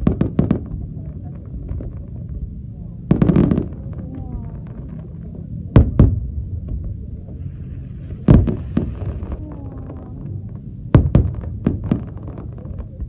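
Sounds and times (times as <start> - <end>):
fireworks booming: 0.0 - 13.0
low rumble: 0.0 - 13.0.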